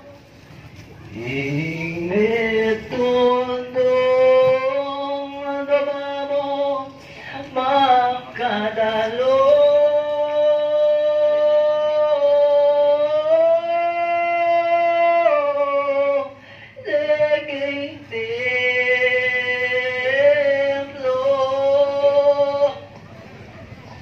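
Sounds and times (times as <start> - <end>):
person singing a slow chant: 1.1 - 23.0.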